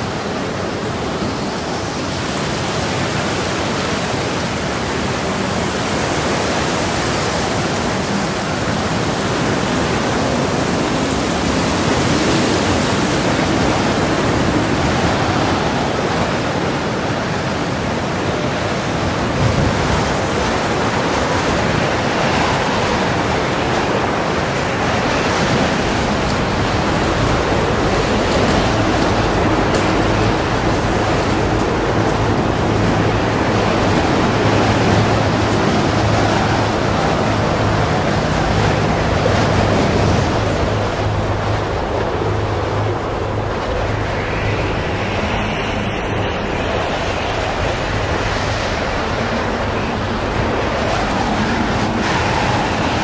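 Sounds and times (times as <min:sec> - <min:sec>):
steady rushing noise: 0:00.0 - 0:53.0.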